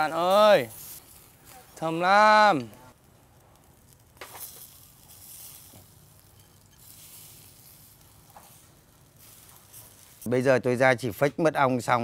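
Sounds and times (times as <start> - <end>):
sausages sizzling over charcoal: 0.0 - 12.0.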